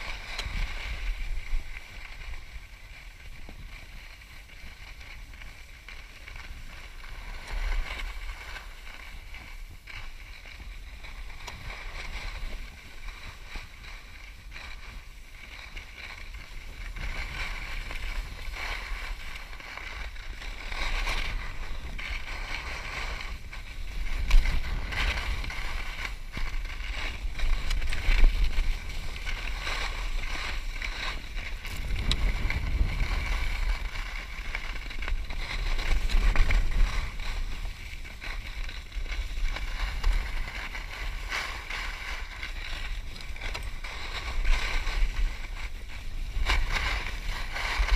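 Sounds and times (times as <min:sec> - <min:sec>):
skis scraping over hard snow: 0:00.0 - 0:47.9
wind rumbling on microphone: 0:00.0 - 0:47.9.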